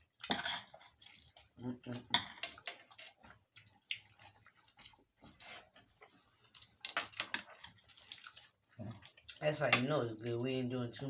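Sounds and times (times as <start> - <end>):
wet chewing sounds: 0.0 - 10.4.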